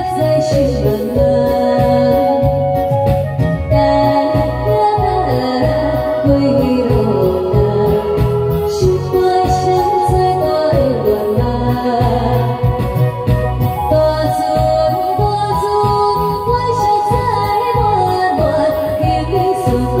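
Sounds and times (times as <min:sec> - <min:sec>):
backing track with bass beat: 0:00.0 - 0:20.0
woman singing into microphone: 0:00.0 - 0:20.0.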